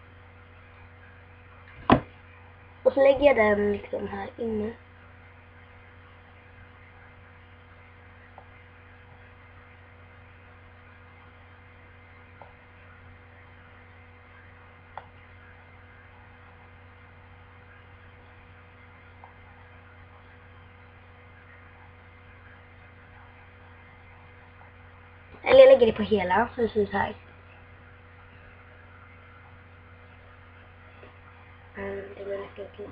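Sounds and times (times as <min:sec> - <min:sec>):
electrical hum and hiss: 0:00.0 - 0:32.9.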